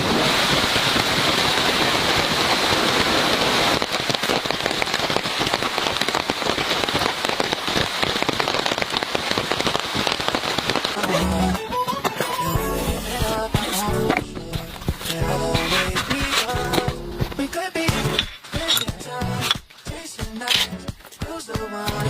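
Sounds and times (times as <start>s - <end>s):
heavy rain pouring: 0.0s - 18.8s.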